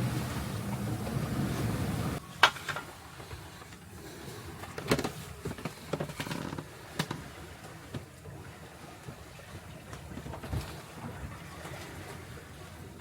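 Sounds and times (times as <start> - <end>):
wind and water noise: 0.0 - 13.0.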